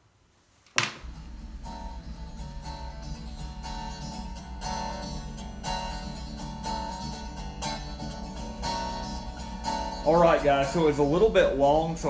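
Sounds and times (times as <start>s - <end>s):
plucked acoustic guitar: 1.0s - 12.0s.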